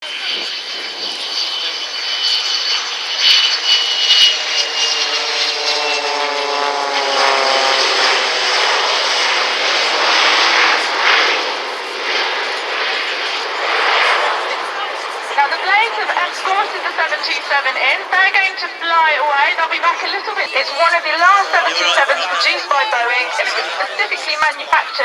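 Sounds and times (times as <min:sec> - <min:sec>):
buzzing propeller engines: 0:00.0 - 0:25.0
jet roar: 0:00.0 - 0:25.0
jet whine: 0:00.0 - 0:25.0.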